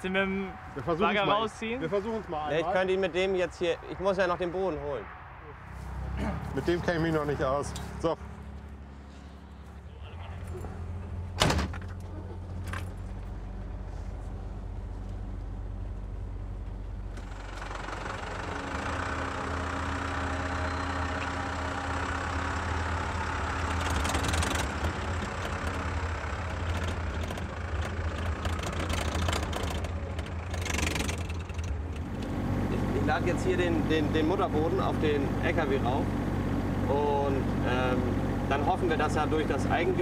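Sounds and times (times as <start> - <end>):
diesel engines running: 0.0 - 40.0.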